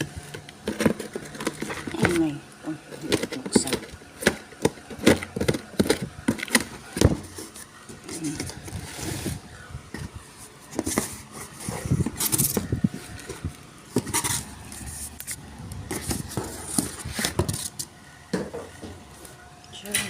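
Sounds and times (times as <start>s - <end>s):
boxes knocking and scraping: 0.0s - 19.2s.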